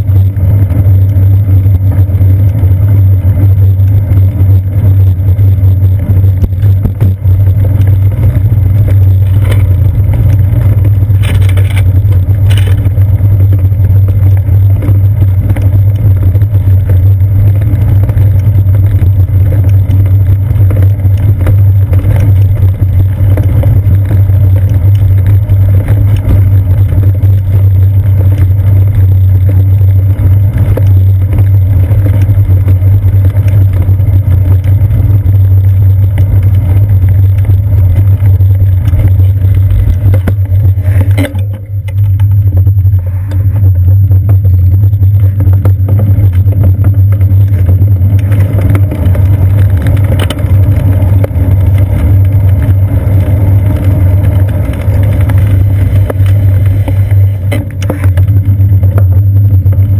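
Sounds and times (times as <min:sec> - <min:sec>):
road vibration rumble: 0:00.0 - 0:59.9
wind noise: 0:00.0 - 0:59.9.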